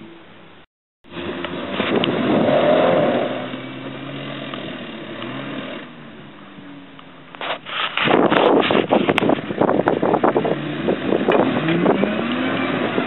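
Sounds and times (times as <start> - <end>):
truck engines revving: 1.0 - 13.0.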